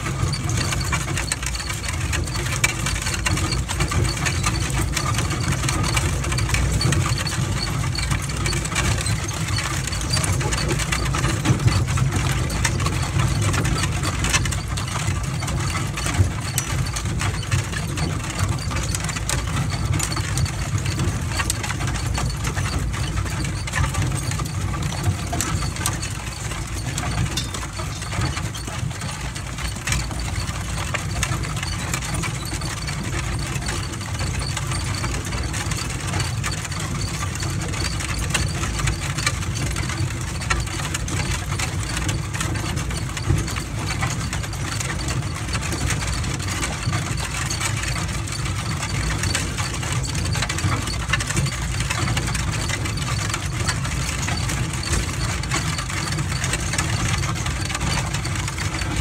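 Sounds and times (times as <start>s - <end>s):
wagon rattling over gravel: 0.0s - 59.0s.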